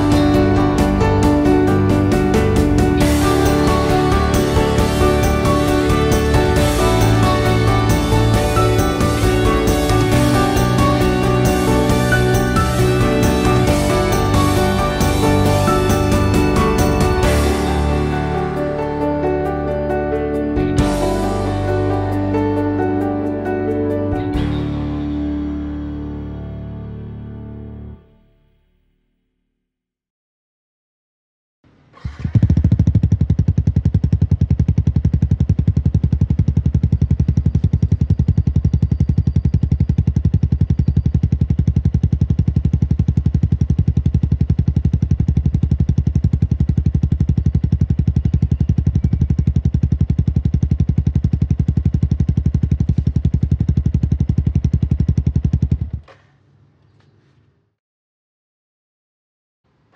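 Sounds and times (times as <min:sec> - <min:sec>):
motorcycle engine idling: 0:00.0 - 0:22.8, 0:31.7 - 0:57.4.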